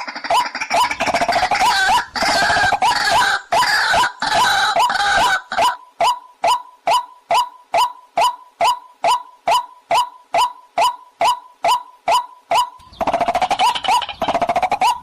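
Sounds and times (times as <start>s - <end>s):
waterhen croaking calls: 0.0s - 15.0s.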